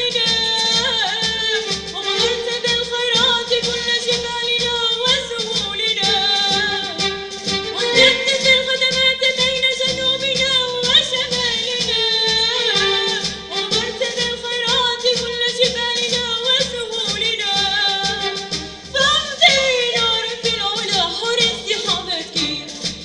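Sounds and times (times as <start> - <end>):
steady percussion beat: 0.0 - 23.0.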